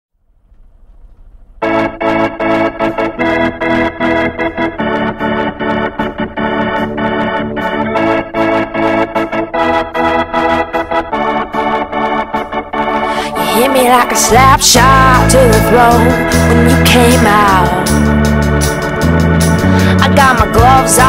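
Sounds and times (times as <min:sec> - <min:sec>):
organ-like keyboard chords: 0:00.3 - 0:21.0.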